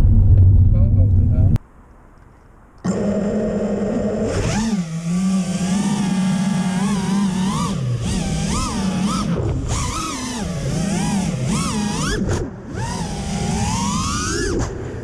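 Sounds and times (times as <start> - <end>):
quadcopter motors whining: 2.8 - 15.0.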